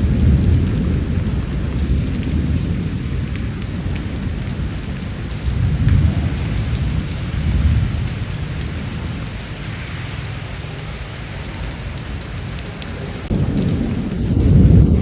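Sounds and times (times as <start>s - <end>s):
low rolling thunder: 0.0s - 15.0s
steady rain falling: 0.0s - 15.0s.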